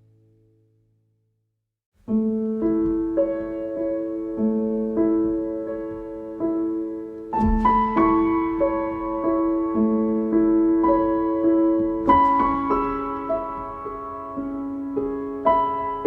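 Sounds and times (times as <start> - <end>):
soft piano piece: 2.0 - 16.0.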